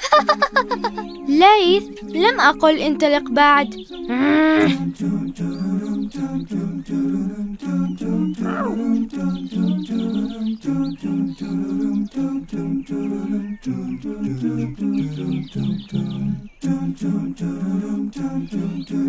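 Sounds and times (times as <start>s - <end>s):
person humming a cappella tune: 0.0s - 19.0s.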